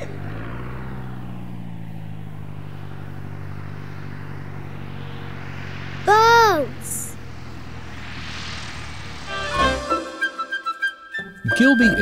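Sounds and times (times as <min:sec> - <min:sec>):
engine rumble: 0:00.0 - 0:09.8.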